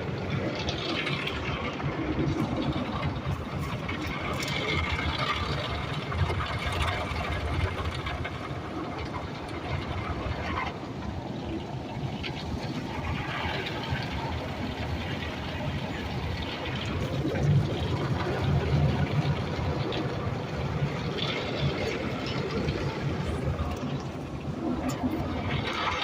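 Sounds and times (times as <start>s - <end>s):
car wash machinery rumbling: 0.0s - 26.0s.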